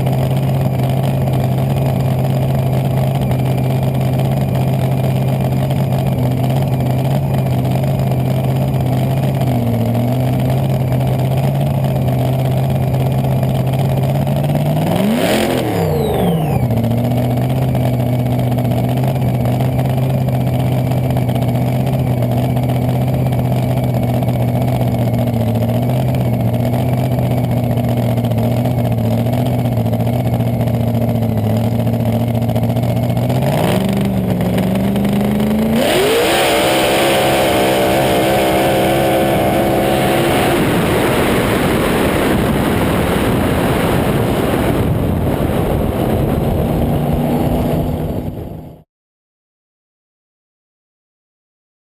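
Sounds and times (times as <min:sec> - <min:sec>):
dragster engine idling and revving: 0:00.0 - 0:48.8.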